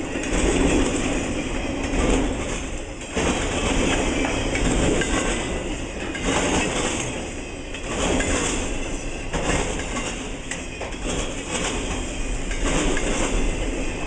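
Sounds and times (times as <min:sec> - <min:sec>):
train wheels rumbling on rail: 0:00.0 - 0:14.0
wheels clicking over rail joints: 0:00.1 - 0:14.0.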